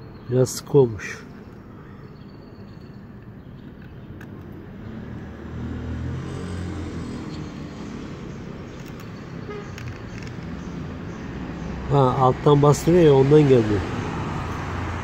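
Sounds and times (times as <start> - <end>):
passing road vehicle rumble: 1.0 - 15.0.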